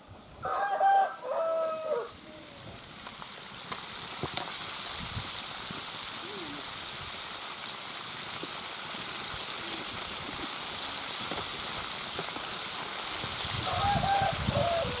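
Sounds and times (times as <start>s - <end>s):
chicken deep-frying in oil: 0.4s - 15.0s.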